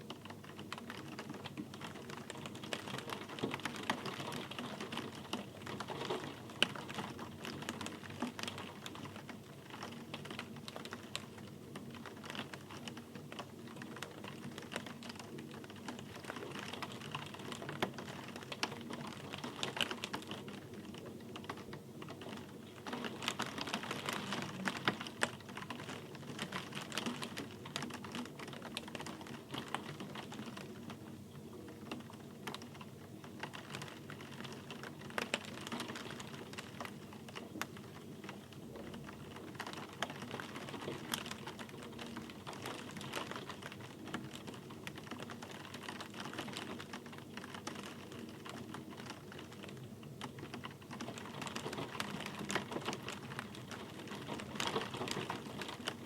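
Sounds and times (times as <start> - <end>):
rain drops ticking: 0.0 - 56.0.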